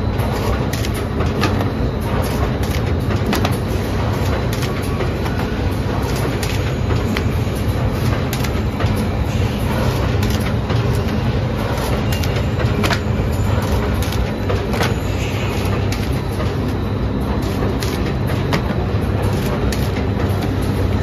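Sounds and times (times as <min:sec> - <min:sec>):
machine rollers rumbling: 0:00.0 - 0:21.0.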